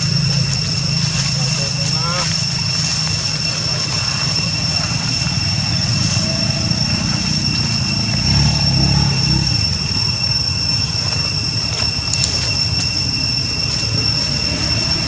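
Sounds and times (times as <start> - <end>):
high-pitched drone: 0.0 - 15.0.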